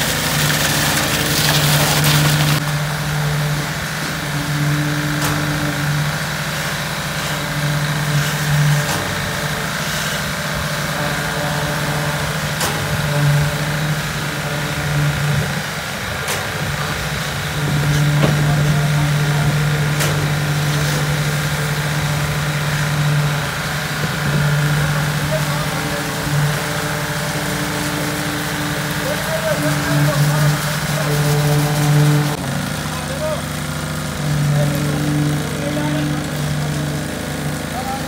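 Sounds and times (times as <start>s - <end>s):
concrete vibrator humming: 0.0s - 38.0s
engine noise: 0.0s - 38.0s.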